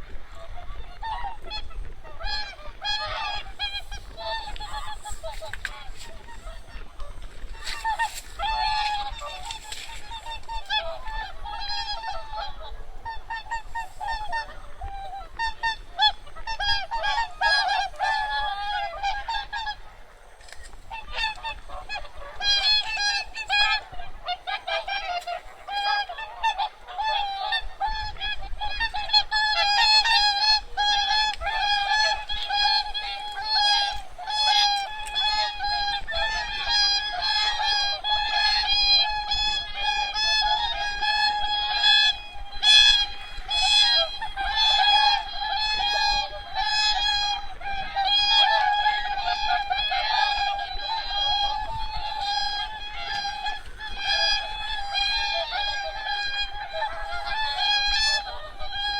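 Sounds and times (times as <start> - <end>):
geese honking: 0.0 - 58.9.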